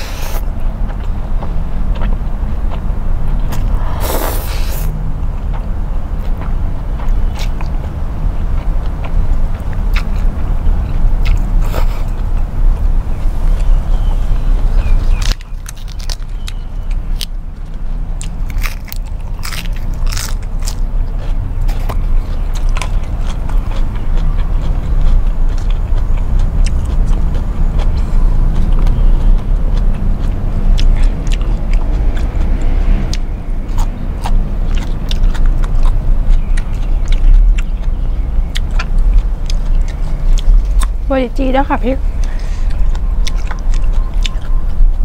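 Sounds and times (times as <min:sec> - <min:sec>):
close chewing with crunching: 0:00.0 - 0:45.0.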